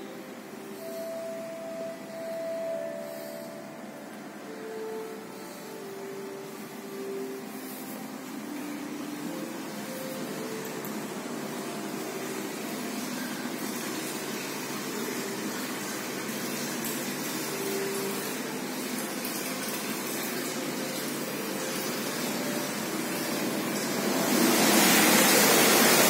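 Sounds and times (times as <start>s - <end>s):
pool hall rushing hiss: 0.0s - 26.0s.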